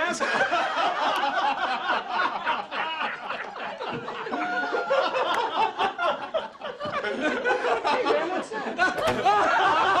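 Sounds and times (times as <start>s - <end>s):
group of people laughing: 0.0s - 10.0s.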